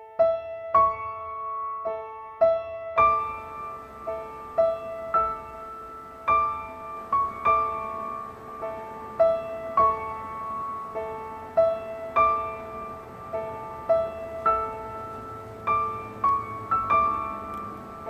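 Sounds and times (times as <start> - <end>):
slow gentle piano melody: 0.0 - 18.0.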